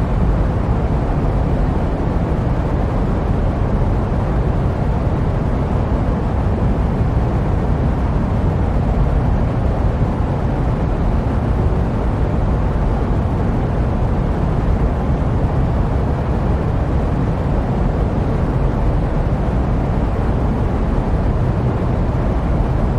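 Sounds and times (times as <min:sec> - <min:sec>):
jet airliner white noise: 0:00.0 - 0:22.9.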